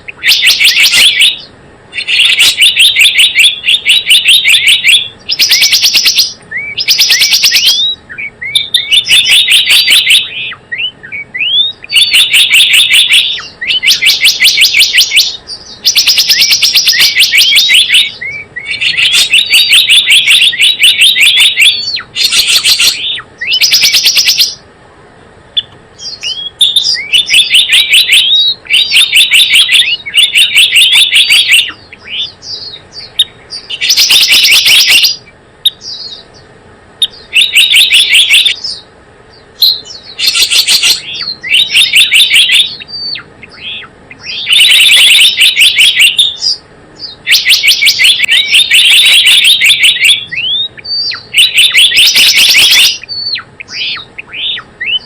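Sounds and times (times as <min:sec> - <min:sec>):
rapid high bird chirps: 0:00.0 - 0:24.7, 0:25.5 - 0:55.0.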